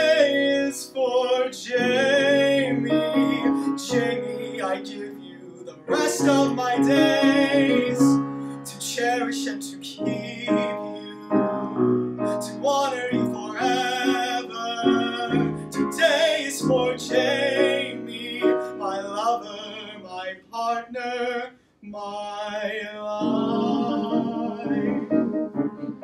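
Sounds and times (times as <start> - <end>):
piano accompaniment: 0.0 - 20.3, 23.1 - 26.0
man singing with vibrato: 0.0 - 25.6.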